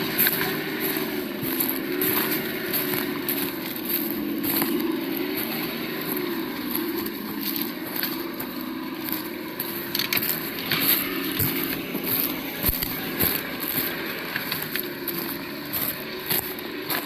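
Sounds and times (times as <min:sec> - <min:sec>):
simulated engine drone: 0:00.0 - 0:17.0
toy truck crunching over ground: 0:00.0 - 0:17.0.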